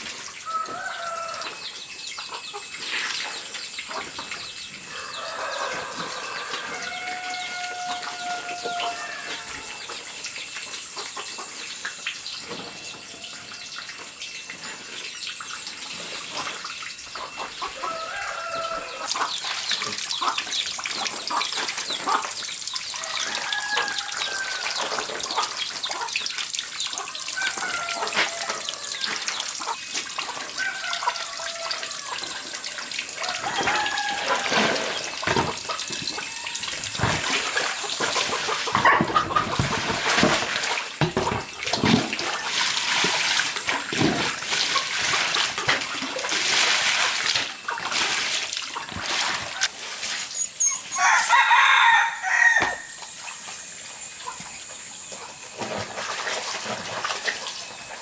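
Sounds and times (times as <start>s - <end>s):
chickens clucking: 0.0s - 11.9s, 16.3s - 51.4s.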